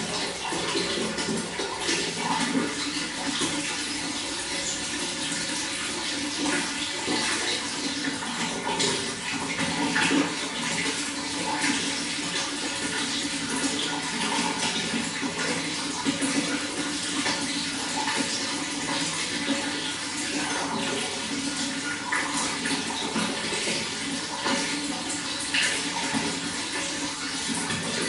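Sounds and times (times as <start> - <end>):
running water gurgling: 0.0 - 28.0
small water splashes: 0.0 - 28.0.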